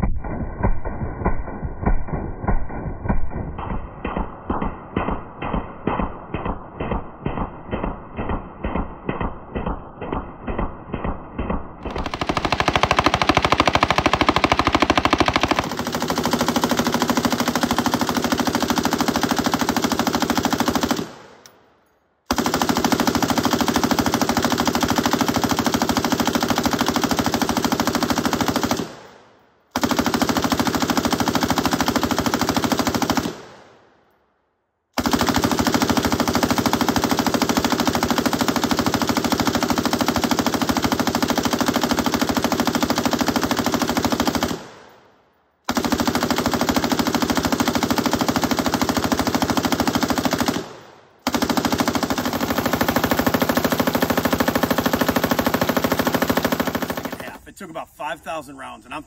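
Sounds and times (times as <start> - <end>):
machine gun automatic fire: 0.0 - 21.5, 22.3 - 34.0, 35.0 - 57.4.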